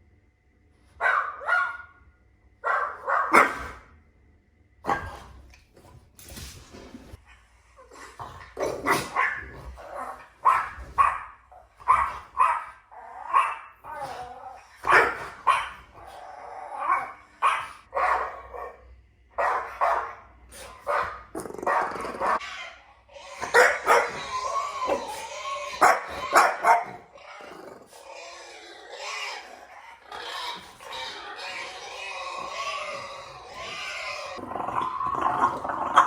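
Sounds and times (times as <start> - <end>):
dog barking and growling: 0.9 - 4.0, 4.8 - 36.0.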